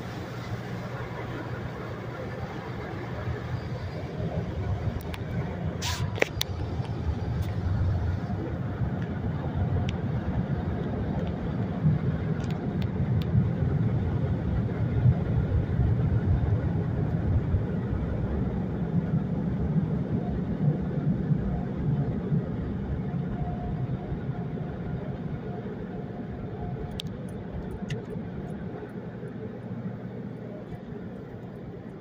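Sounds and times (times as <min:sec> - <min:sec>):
car cabin rumble and hiss: 0:00.0 - 0:32.0.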